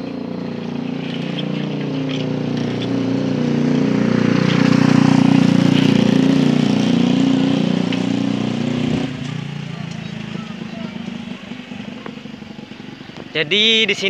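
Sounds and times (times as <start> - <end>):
small motorcycle engine passing: 0.0 - 14.0.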